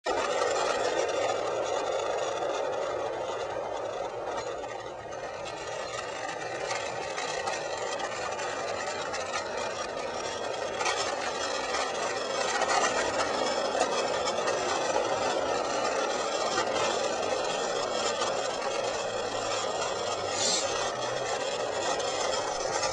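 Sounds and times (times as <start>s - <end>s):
board wheels rolling on gritty asphalt: 0.0s - 22.9s.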